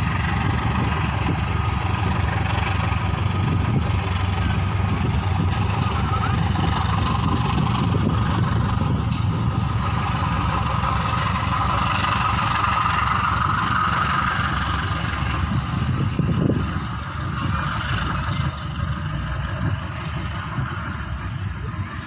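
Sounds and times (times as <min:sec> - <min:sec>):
ringing rail noise: 0:00.0 - 0:22.0
train rumbling past: 0:00.0 - 0:22.0.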